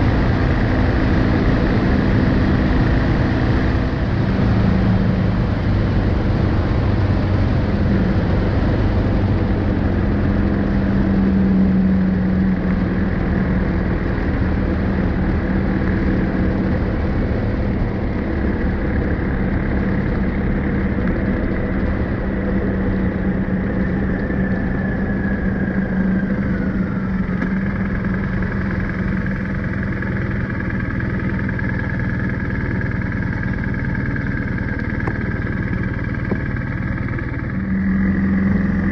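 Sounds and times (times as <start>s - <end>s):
high whine falling in pitch: 0.0s - 38.9s
motorcycle engine running: 0.0s - 38.9s.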